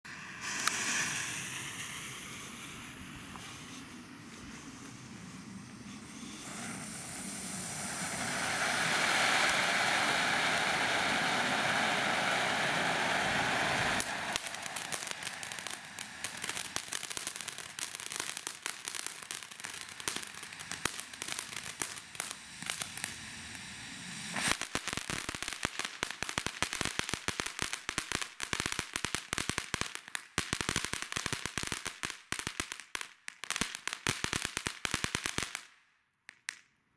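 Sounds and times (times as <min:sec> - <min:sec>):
firework hiss of sparks: 0:00.1 - 0:35.8
firework crackling pops: 0:00.1 - 0:36.8.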